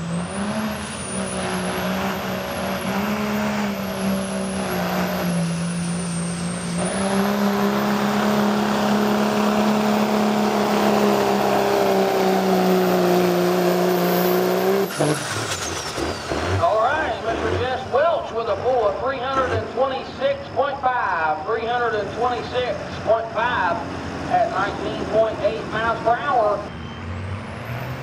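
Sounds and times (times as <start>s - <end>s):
diesel truck engine running hard: 0.0s - 28.0s
high turbo whine: 0.0s - 28.0s.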